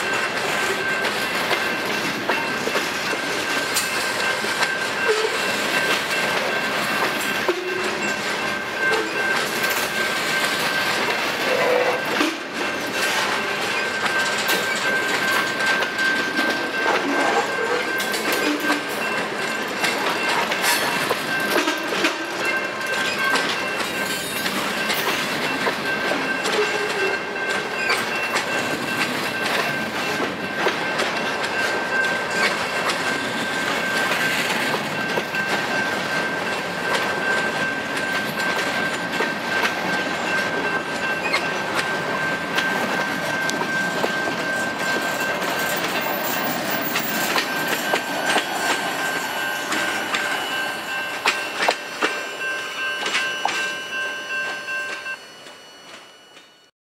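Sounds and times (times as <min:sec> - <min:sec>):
train wheels clacking over rail joints: 0:00.0 - 0:56.5.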